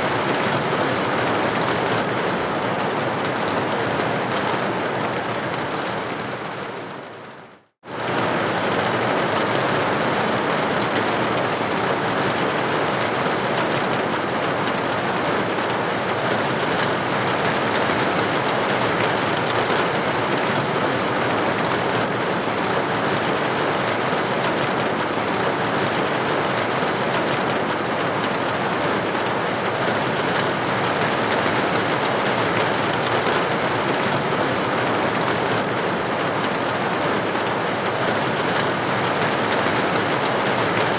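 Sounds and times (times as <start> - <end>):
rain pattering on a roof: 0.0 - 40.9.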